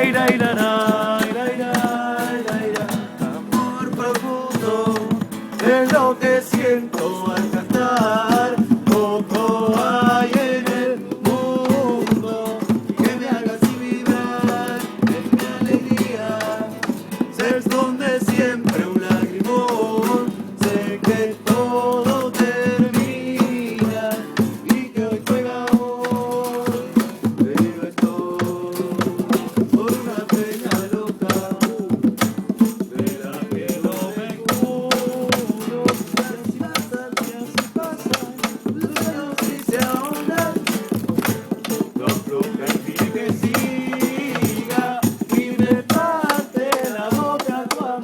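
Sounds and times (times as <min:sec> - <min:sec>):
instrumental music with percussion: 0:00.0 - 0:48.0.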